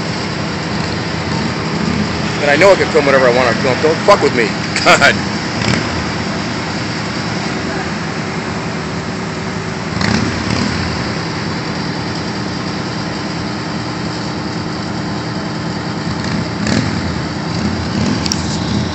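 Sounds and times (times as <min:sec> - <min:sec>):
rushes of traffic noise: 0:00.0 - 0:18.9
vehicle engines idling: 0:00.0 - 0:18.9.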